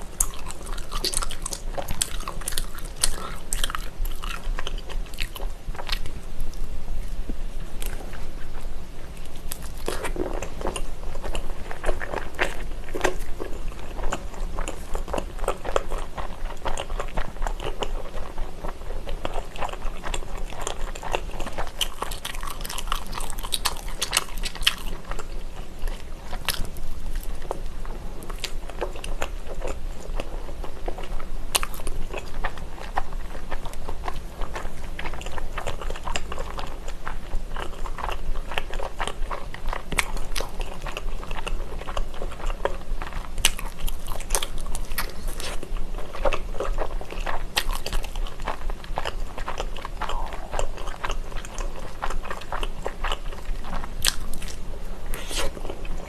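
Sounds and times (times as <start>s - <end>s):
chewing and biting: 0.1s - 56.0s.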